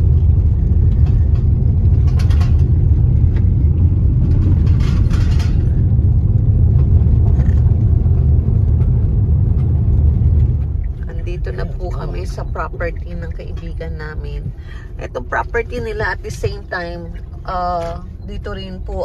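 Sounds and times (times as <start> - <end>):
car road noise on dirt road: 0.0 - 19.0.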